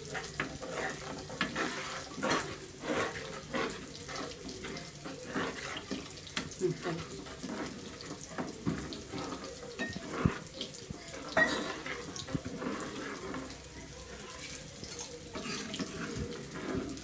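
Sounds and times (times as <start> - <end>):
ladle stirring liquid sloshing: 0.0 - 17.0.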